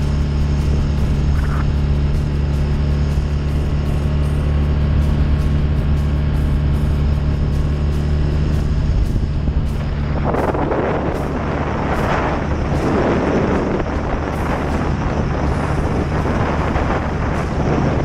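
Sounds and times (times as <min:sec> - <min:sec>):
motorcycle engine cruising: 0:00.0 - 0:18.0
wind buffeting microphone: 0:00.0 - 0:18.0.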